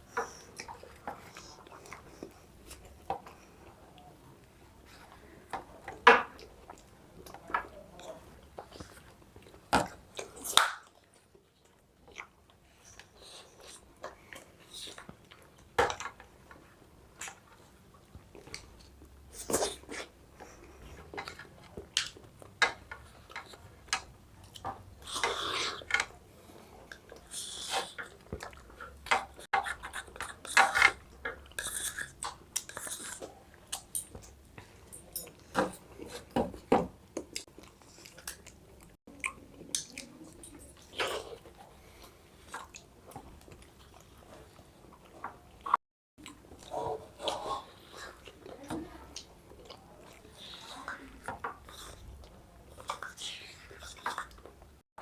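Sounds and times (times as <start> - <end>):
mouth sounds and chewing: 0.0 - 54.8.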